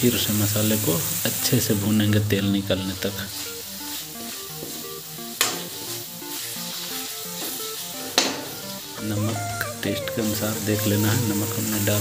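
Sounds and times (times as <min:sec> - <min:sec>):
food sizzling in a pan: 0:00.0 - 0:12.0
soft background music: 0:00.0 - 0:12.0.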